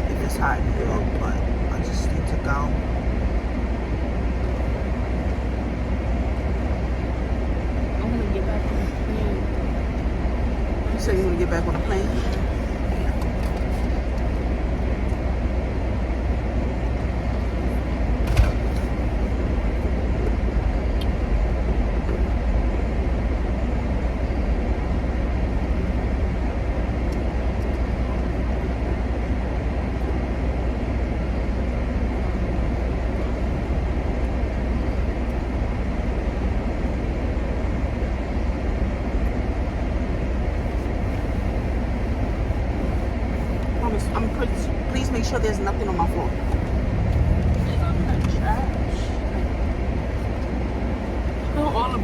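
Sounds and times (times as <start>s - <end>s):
car cabin rumble: 0.0s - 29.2s, 31.5s - 52.0s.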